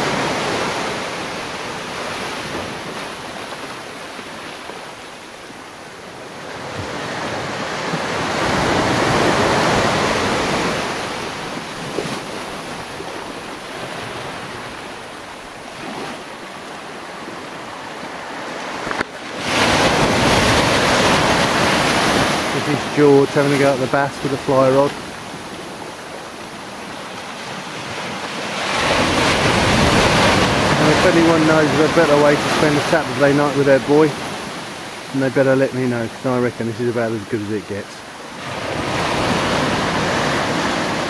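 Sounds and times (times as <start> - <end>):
surf washing against rocks: 0.0 - 41.0.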